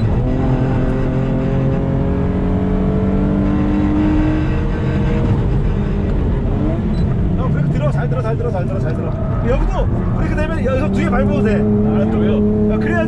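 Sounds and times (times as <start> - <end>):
car engine accelerating: 0.0 - 13.0
tyre and road noise: 0.0 - 13.0.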